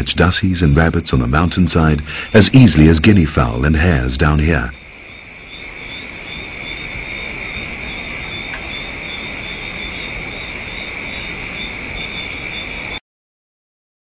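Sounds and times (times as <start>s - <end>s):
crickets trilling: 0.0s - 13.0s
faint low hiss: 0.0s - 13.0s.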